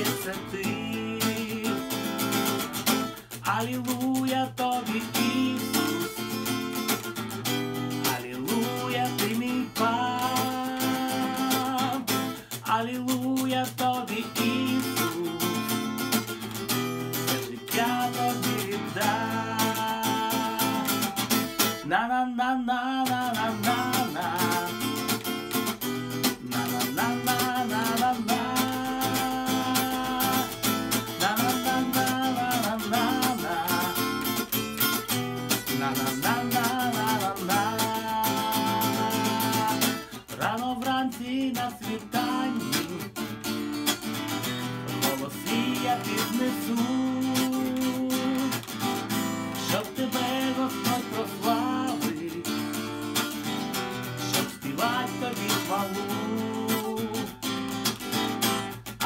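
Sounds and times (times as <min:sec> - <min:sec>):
man singing: 0:00.0 - 0:07.1, 0:07.8 - 0:59.0
strummed acoustic guitar: 0:00.0 - 0:59.0.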